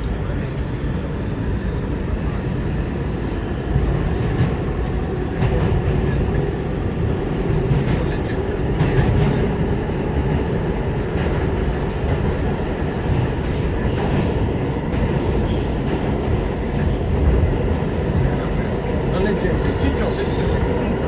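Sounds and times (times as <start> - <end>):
wheels rumbling on rail: 0.0 - 21.0.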